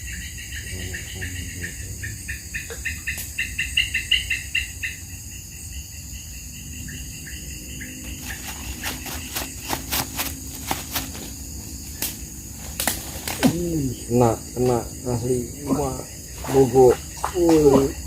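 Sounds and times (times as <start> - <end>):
insects chirping in pulses: 0.0 - 18.0.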